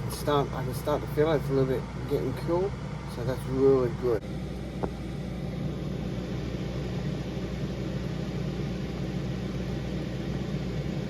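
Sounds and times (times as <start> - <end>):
air conditioner fan humming: 0.0 - 11.0.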